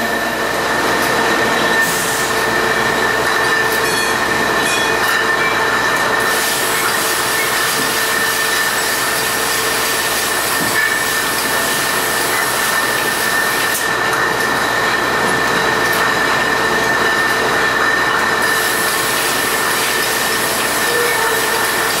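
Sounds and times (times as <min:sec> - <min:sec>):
high machine whine: 0:00.0 - 0:22.0
machine clatter: 0:00.9 - 0:22.0.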